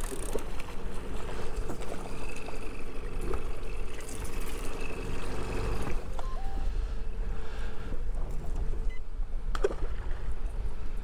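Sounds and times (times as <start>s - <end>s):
boat motor droning: 0.0s - 8.9s.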